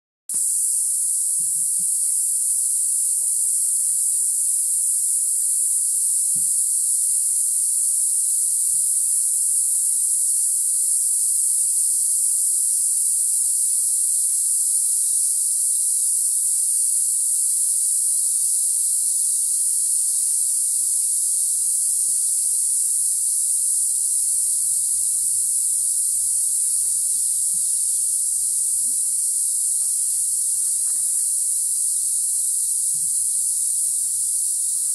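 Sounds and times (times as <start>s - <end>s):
jungle insects buzzing: 0.3s - 34.9s.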